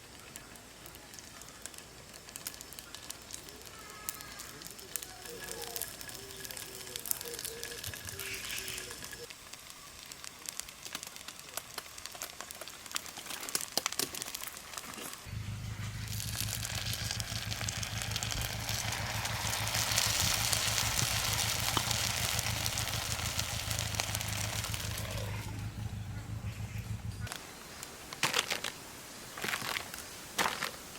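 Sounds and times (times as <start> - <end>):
light crackling and clicks: 0.0 - 15.3, 15.9 - 28.8
camp stove hissing with hum: 0.0 - 28.0.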